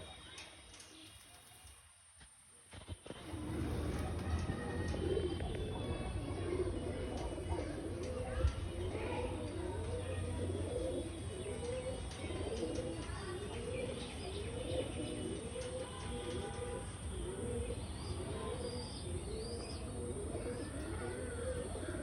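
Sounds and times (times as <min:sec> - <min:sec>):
pigeons cooing: 0:03.1 - 0:22.0.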